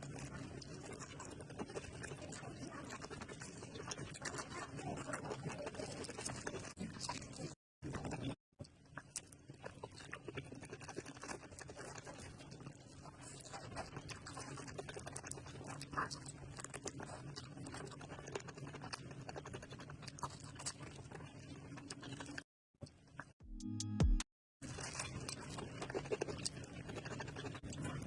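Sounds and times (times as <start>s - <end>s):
wet chewing and mouth smacking: 0.0s - 23.4s, 24.6s - 28.0s.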